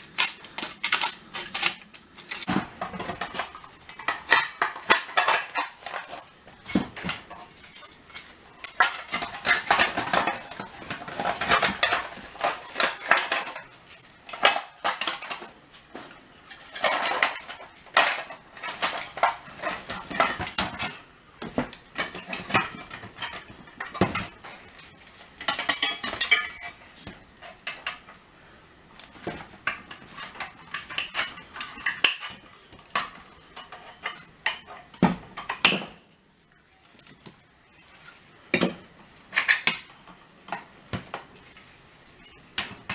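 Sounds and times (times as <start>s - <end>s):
sheet metal parts clattering: 0.0s - 28.2s, 29.2s - 36.0s.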